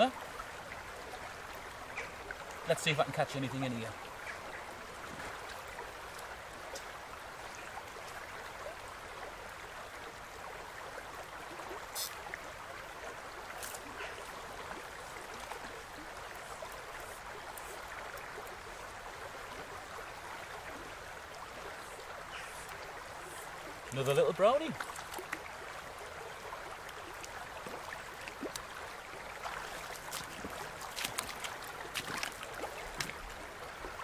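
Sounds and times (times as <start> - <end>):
river water running over stones: 0.0 - 34.0.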